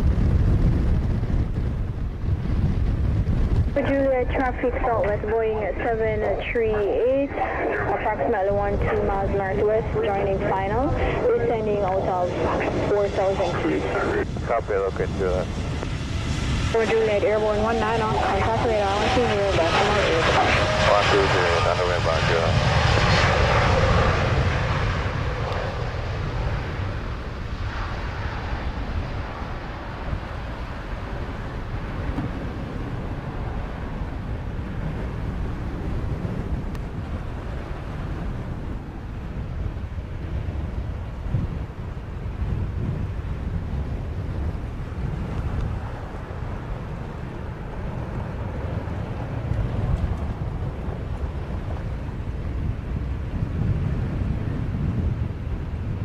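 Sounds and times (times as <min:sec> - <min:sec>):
jet engines at takeoff thrust: 0:00.0 - 0:56.0
wind buffeting microphone: 0:00.0 - 0:56.0.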